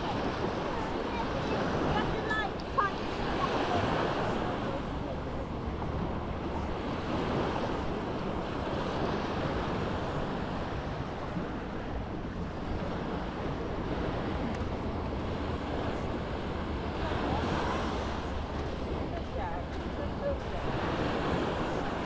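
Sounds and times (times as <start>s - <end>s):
sea waves washing onto beach: 0.0s - 22.0s.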